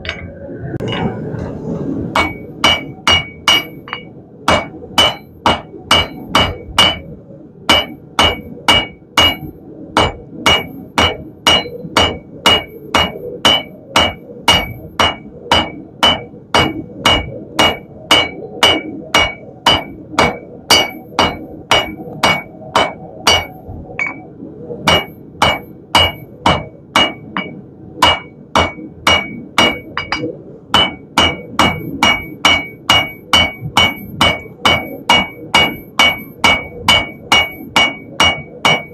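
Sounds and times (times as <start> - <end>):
hammer ringing on anvil: 2.2 - 7.1, 7.7 - 24.2, 24.9 - 38.9.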